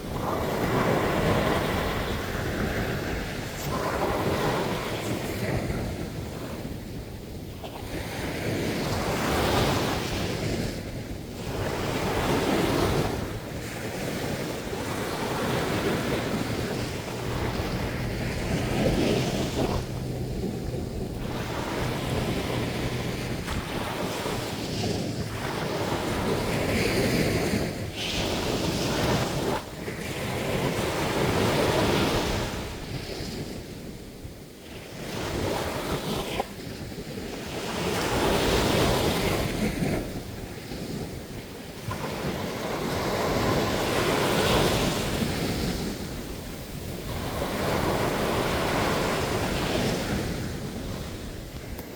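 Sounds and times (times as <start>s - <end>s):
ocean surf washing: 0.0s - 36.6s, 37.2s - 51.9s
wind buffeting microphone: 0.0s - 51.9s.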